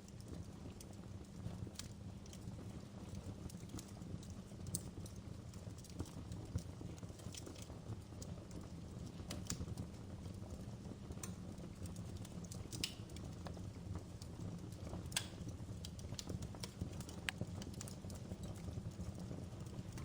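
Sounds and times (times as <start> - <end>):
low rumble of burning fire: 0.0 - 20.0
wood fire crackling: 0.0 - 20.0.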